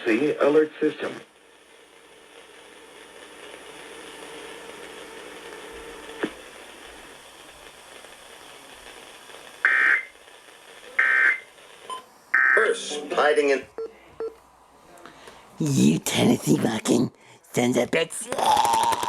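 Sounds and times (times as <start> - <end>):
faint static hiss: 0.0 - 19.0.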